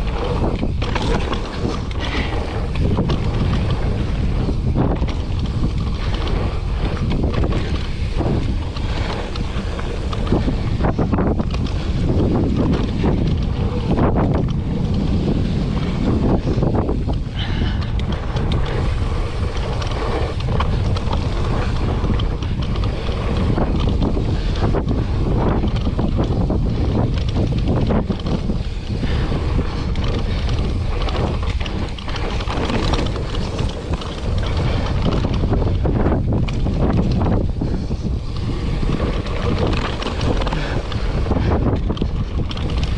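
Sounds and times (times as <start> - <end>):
bike knocking and rattling: 0.0 - 42.9
tyres rumbling on dirt trail: 0.0 - 42.9
wind buffeting microphone: 0.0 - 42.9.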